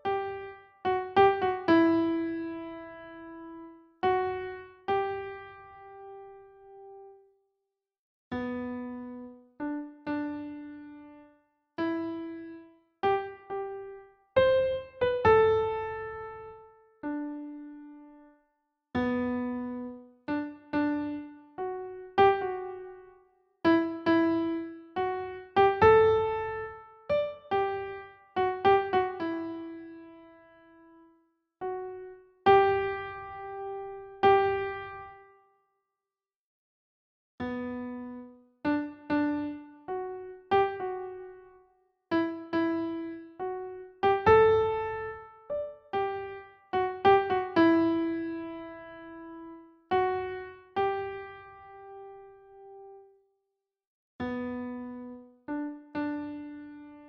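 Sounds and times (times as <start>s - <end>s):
slow solo piano melody: 0.0s - 7.2s, 8.3s - 18.3s, 19.0s - 35.3s, 37.4s - 53.1s, 54.2s - 57.0s.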